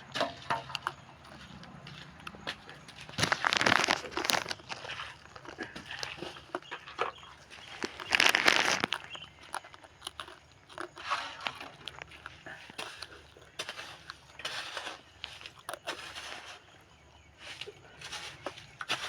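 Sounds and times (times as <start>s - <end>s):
bricks scraping and crunching: 0.1s - 16.7s.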